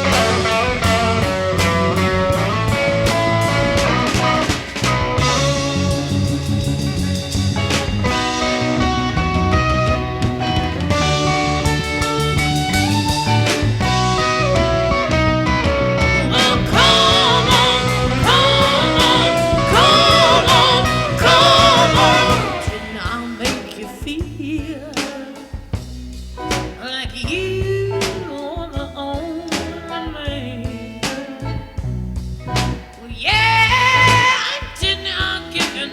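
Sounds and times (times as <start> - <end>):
blues-rock song with singing: 0.0 - 35.9.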